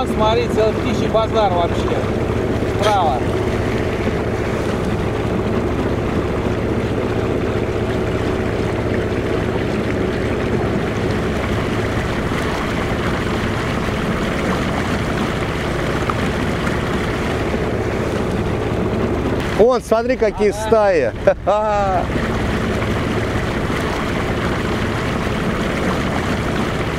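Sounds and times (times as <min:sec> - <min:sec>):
outboard motor running: 0:00.0 - 0:26.9
water noise: 0:00.0 - 0:26.9.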